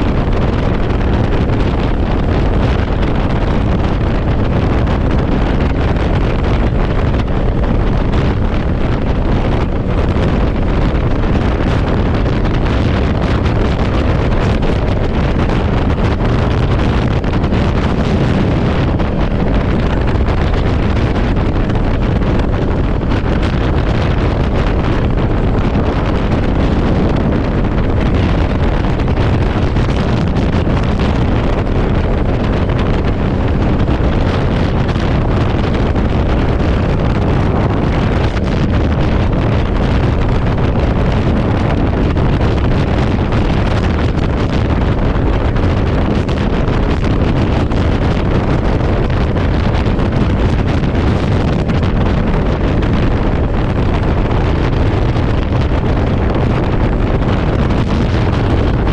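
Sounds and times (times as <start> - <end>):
road noise: 0.0 - 58.9
wind buffeting microphone: 0.0 - 58.9.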